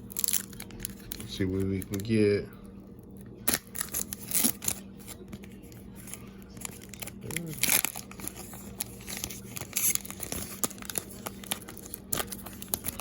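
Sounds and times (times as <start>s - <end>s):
card pack wrapper tearing and crinkling: 0.0s - 2.2s, 3.4s - 13.0s.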